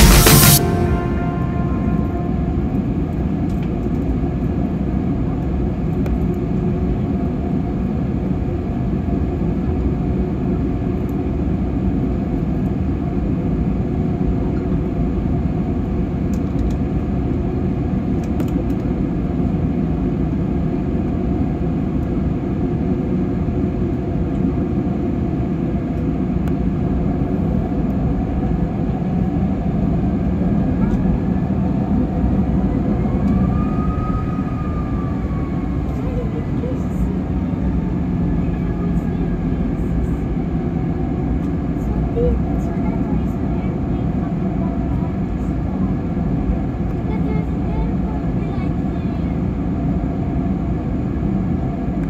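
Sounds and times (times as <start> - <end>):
airliner cabin drone: 0.0 - 52.0.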